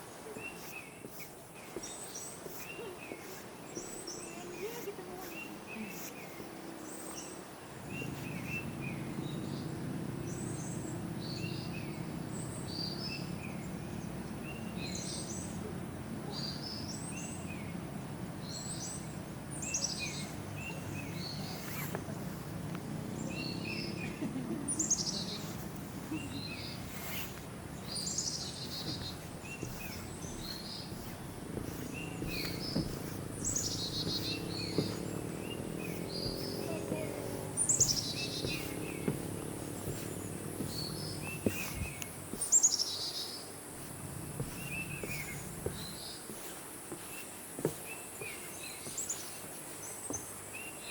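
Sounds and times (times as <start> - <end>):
forest birds chirping: 0.0 - 50.9
low background noise: 0.0 - 50.9.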